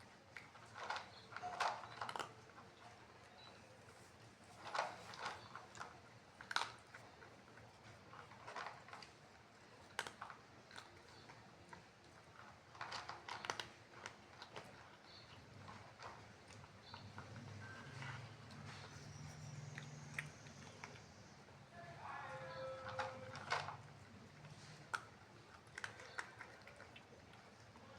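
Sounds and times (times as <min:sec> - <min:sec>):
cat chewing food: 0:00.0 - 0:21.6, 0:22.3 - 0:27.9.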